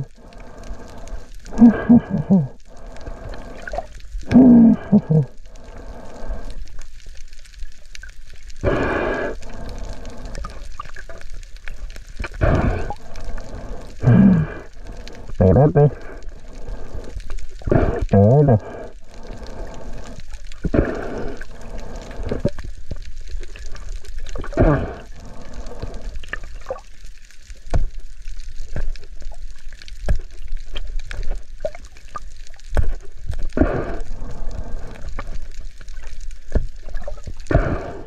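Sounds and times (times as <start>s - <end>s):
water gurgling and sloshing: 0.0s - 38.0s.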